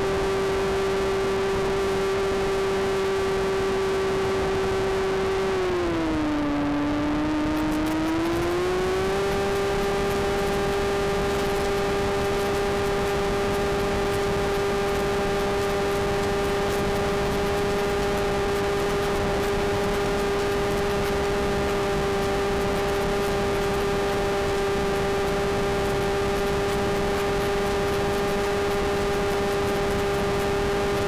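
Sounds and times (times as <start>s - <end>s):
electric motor and propeller whine: 0.0s - 31.0s.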